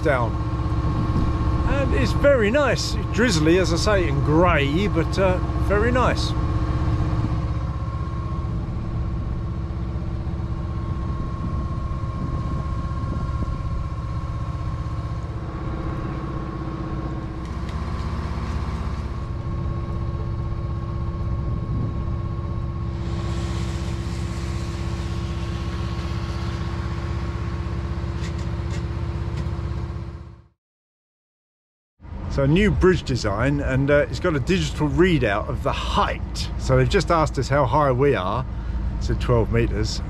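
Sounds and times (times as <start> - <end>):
boat engine drone: 0.0 - 30.6, 32.0 - 40.0.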